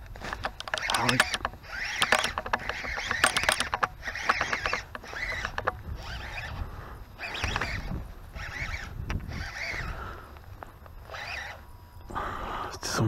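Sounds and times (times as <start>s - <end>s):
fishing reel clicking and whirring: 0.3s - 10.3s, 11.0s - 11.7s.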